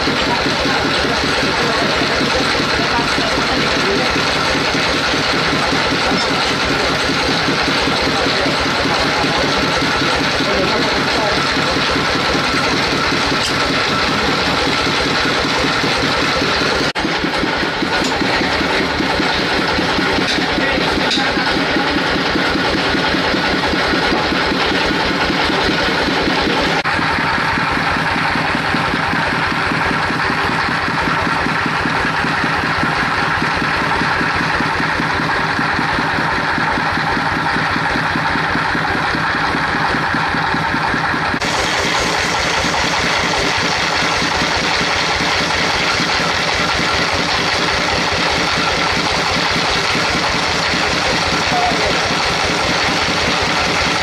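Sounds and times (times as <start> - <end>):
sawmill engine chugging: 0.0 - 54.0.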